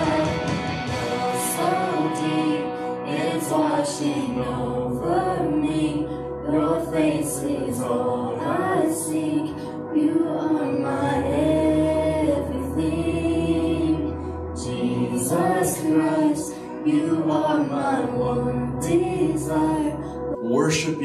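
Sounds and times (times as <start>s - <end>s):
women singing a worship song: 0.0s - 20.4s.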